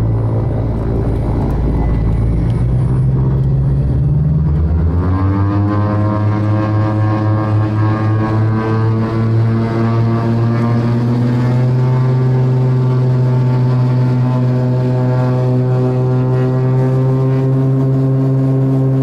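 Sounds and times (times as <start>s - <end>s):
twin piston engines droning: 0.0s - 19.0s.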